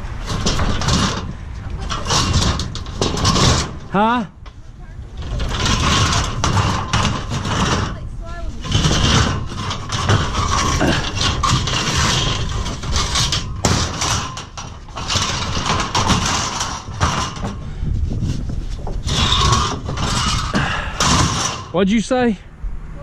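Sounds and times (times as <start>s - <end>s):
metal clanks and scrapes: 0.0s - 21.9s
winch grinding: 0.0s - 22.3s.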